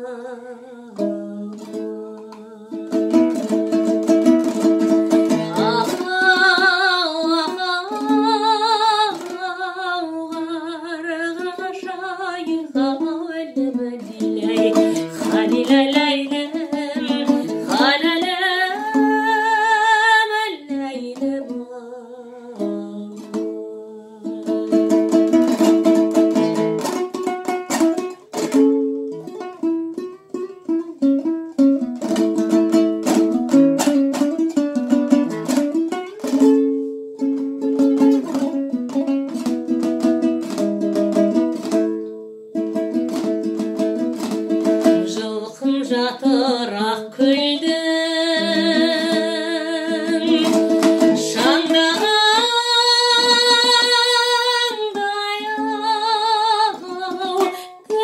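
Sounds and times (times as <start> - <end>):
strummed two-stringed lute: 0.0 - 58.0
woman singing folk song: 0.0 - 58.0.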